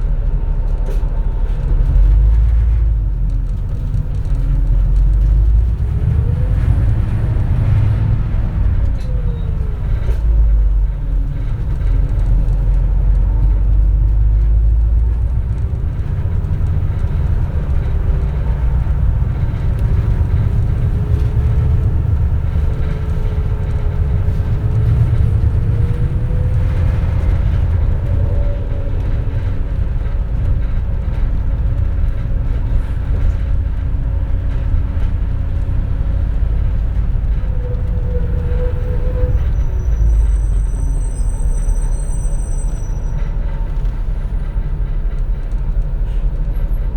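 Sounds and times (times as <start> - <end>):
bus engine rumble: 0.0 - 46.9
engine whine: 0.0 - 46.9.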